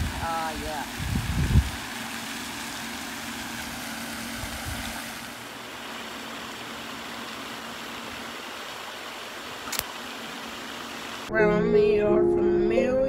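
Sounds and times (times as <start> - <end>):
fountain spray splashing: 0.0 - 11.3.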